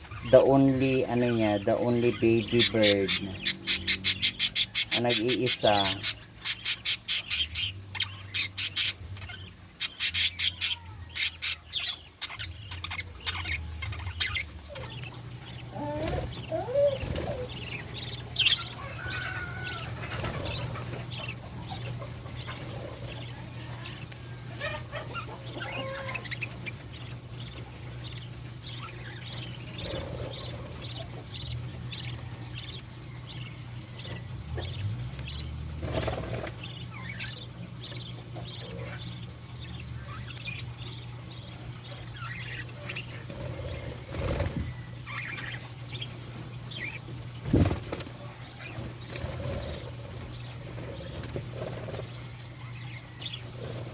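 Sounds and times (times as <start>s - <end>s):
budgerigars chirping and chattering: 0.0s - 53.9s
steady low hum: 0.0s - 53.9s.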